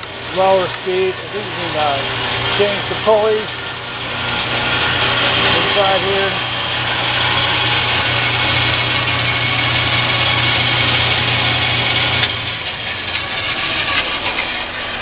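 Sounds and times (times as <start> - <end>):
band saw motor hum: 0.0 - 15.0
band saw whir: 0.0 - 15.0.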